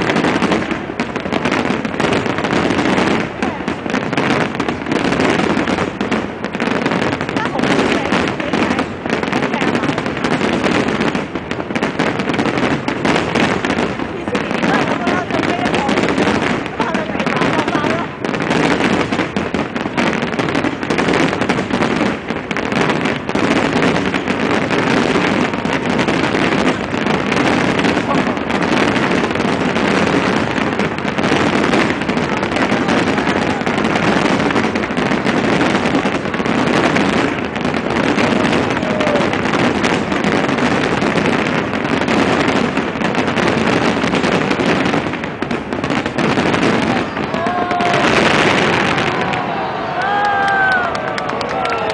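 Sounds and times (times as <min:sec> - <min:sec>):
crowd voices: 0:00.0 - 0:41.8, 0:45.8 - 0:51.9
fireworks crackling and banging: 0:00.0 - 0:51.9.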